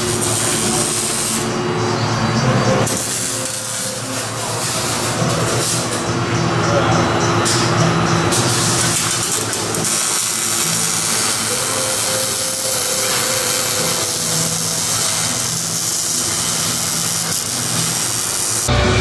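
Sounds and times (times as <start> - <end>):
welding arc crackling and hissing: 0.0 - 1.6, 2.8 - 6.1, 8.3 - 18.7.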